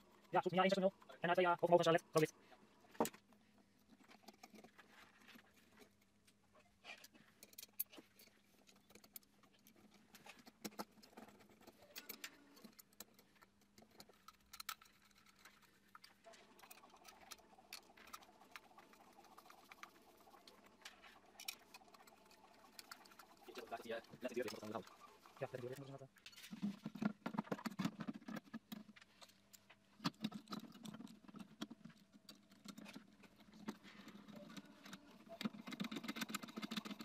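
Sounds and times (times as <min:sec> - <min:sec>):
metal parts clicking and scraping: 0:02.9 - 0:06.2, 0:06.8 - 0:37.0.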